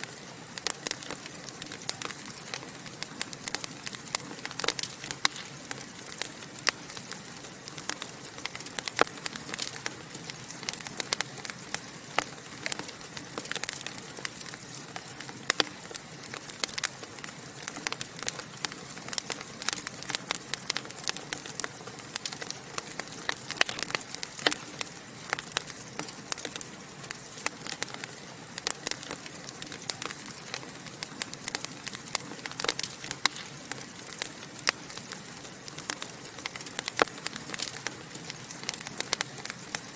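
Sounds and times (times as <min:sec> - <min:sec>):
soft fire hiss: 0:00.0 - 0:39.9
wood fire crackling: 0:00.0 - 0:39.9.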